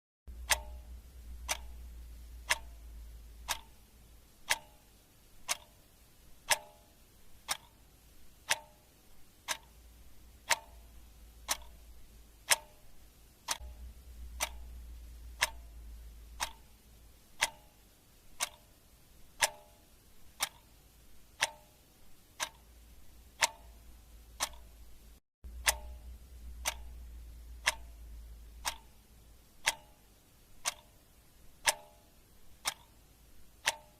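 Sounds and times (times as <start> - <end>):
clock ticking: 0.3 - 33.9
faint low hum: 0.3 - 33.9.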